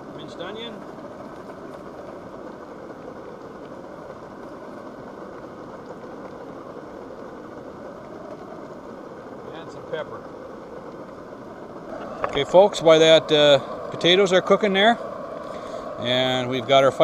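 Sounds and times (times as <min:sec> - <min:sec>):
potatoes sizzling in a pan: 0:00.0 - 0:17.0.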